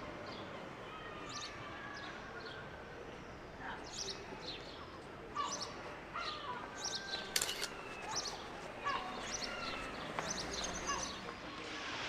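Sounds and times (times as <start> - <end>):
small birds chirping: 1.3 - 11.3.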